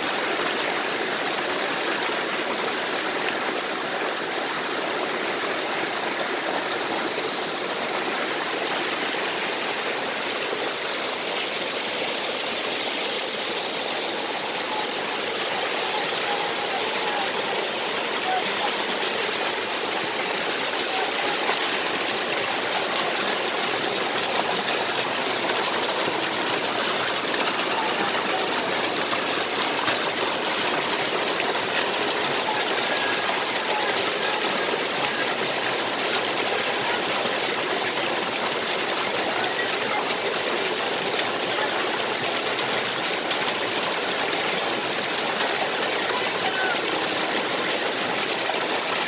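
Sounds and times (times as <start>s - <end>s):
waterfall and stream rushing: 0.0s - 49.0s.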